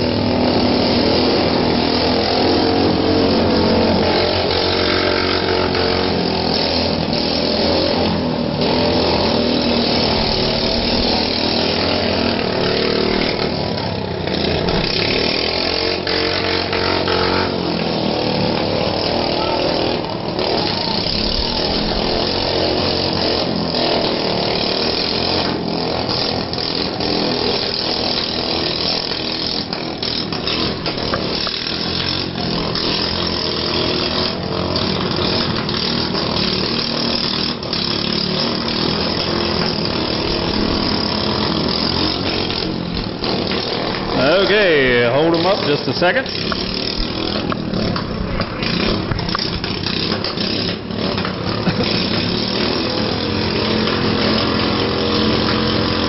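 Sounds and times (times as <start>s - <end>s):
lawnmower engines running unevenly: 0.0s - 56.0s.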